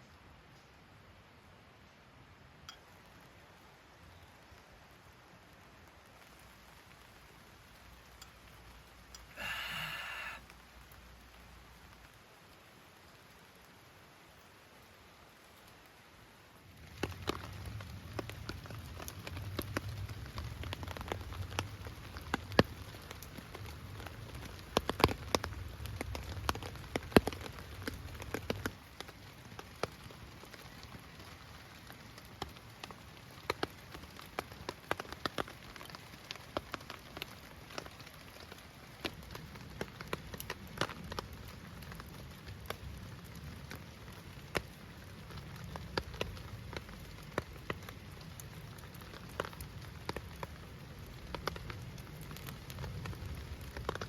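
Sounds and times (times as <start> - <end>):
heavy rain falling: 2.9 - 54.0.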